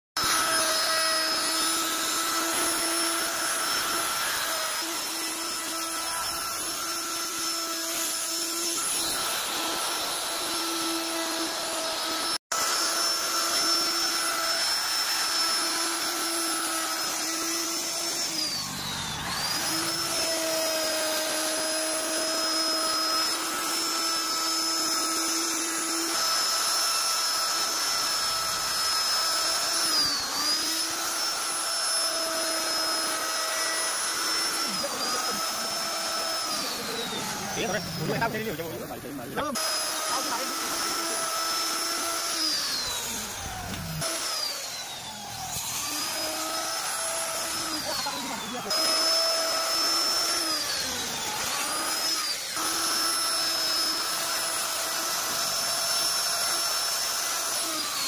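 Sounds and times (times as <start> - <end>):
router cutting wood: 0.2 - 58.0.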